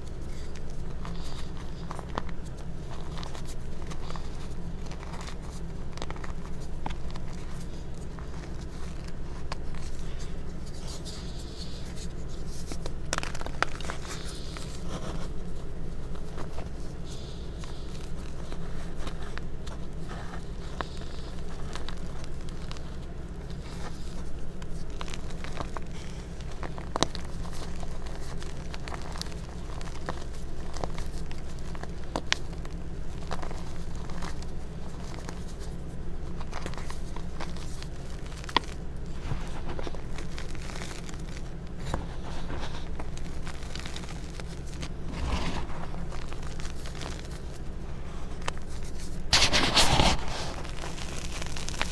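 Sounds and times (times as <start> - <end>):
chalk pieces snapping: 0.0 - 51.9
hands crushing chalk blocks: 0.0 - 51.9.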